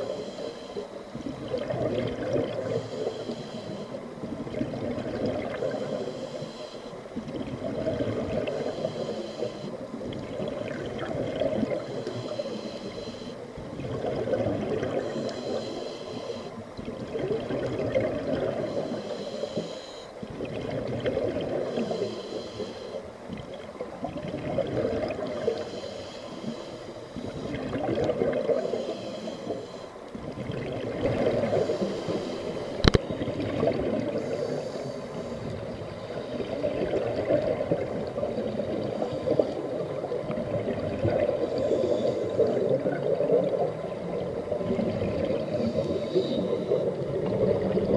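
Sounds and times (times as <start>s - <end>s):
regulator bubbles burbling underwater: 1.1s - 6.5s, 7.1s - 19.2s, 20.2s - 22.4s, 23.2s - 26.6s, 27.2s - 29.0s, 30.1s - 47.9s.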